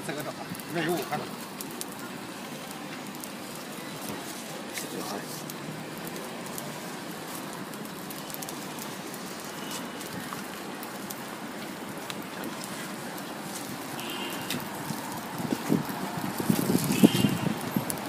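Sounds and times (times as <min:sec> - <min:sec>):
batter sizzling on a griddle: 0:00.0 - 0:18.0
faint crackles: 0:00.0 - 0:18.0.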